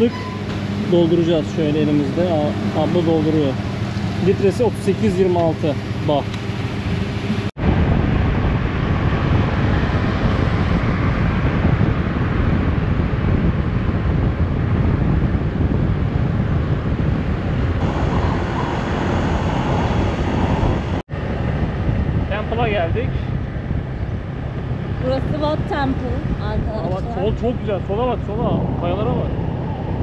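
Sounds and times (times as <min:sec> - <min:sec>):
motorbike running: 0:00.0 - 0:30.0
wind buffeting microphone: 0:00.0 - 0:30.0.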